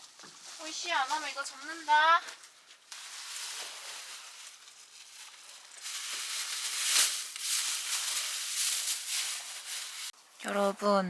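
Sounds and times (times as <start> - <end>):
material rustling and crinkling: 0.0 - 10.9.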